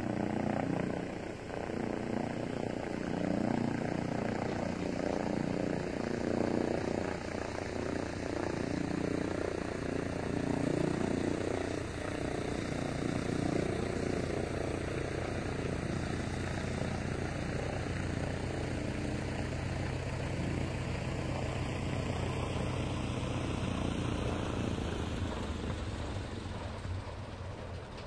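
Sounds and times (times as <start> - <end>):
floatplane engine and propeller: 0.0 - 28.0.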